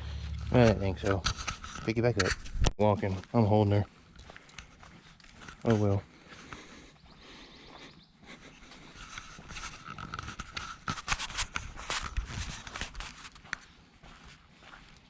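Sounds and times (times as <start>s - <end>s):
footsteps on a trail: 0.0s - 15.0s.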